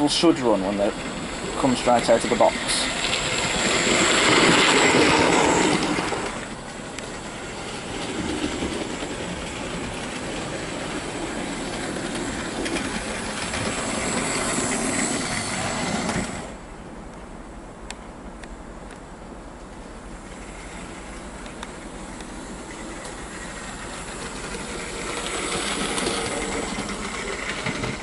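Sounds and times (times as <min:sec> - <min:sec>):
model train motor hum: 0:00.0 - 0:16.6, 0:20.2 - 0:28.0
model train wheels rumbling: 0:00.0 - 0:16.8, 0:19.8 - 0:28.0.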